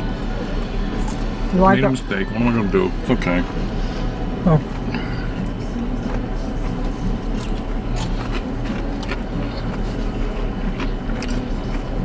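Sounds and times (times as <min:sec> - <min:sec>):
air-conditioning blower: 0:00.0 - 0:12.0
car engine idling: 0:00.0 - 0:12.0.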